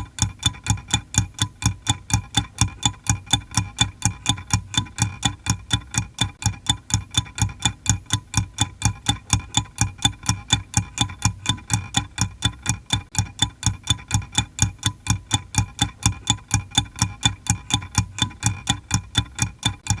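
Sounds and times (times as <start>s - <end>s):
clock ticking: 0.0s - 20.0s.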